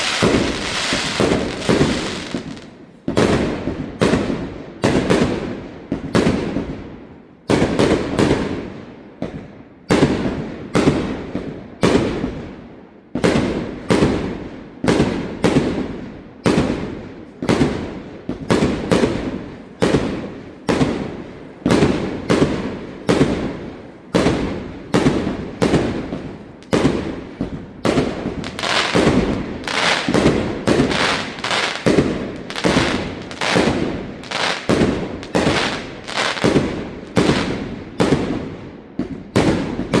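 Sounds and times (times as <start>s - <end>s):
fireworks bangs echoing: 0.0s - 40.0s.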